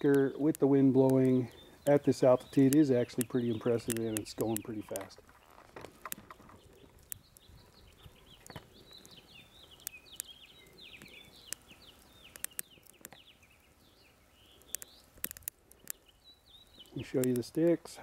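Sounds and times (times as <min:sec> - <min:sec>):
bird twittering faintly: 0:00.0 - 0:18.0
burning sticks crackling: 0:00.0 - 0:18.0.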